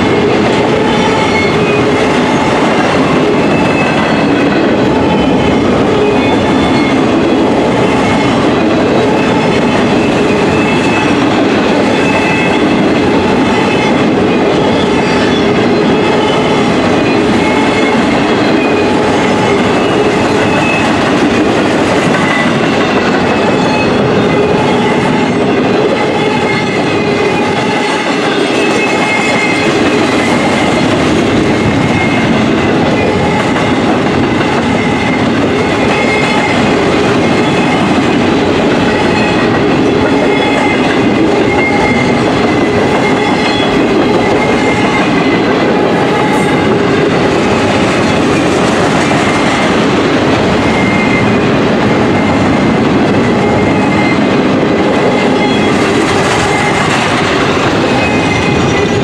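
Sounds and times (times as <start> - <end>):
steady ringing tones: 0.0 - 59.0
steel train wheels on rails: 0.0 - 59.0.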